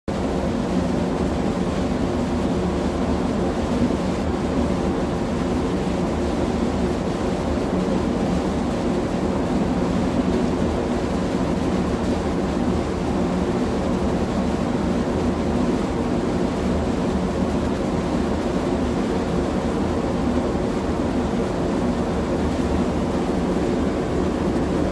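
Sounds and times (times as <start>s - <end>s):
ship engine droning: 0.1s - 24.9s.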